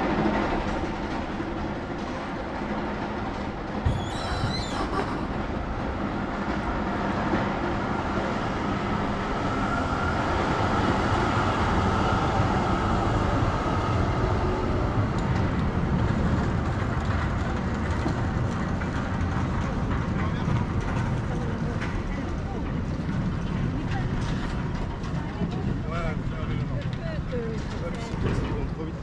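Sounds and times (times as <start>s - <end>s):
tram running past: 0.0s - 29.0s
bicycle rolling noise: 5.5s - 29.0s.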